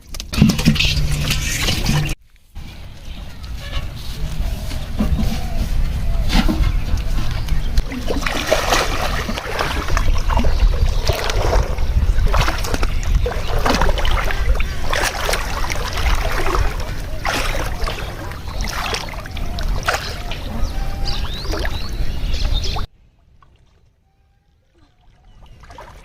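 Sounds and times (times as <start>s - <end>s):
water splashing and sloshing: 0.0s - 2.2s, 2.8s - 26.0s.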